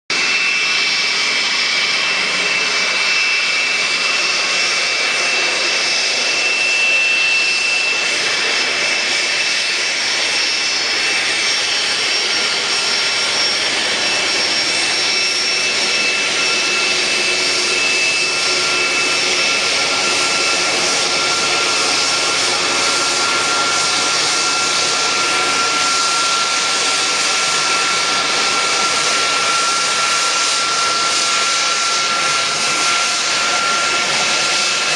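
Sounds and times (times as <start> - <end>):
jet engines rushing hiss: 0.1 - 34.9
low engine whine: 0.1 - 34.9.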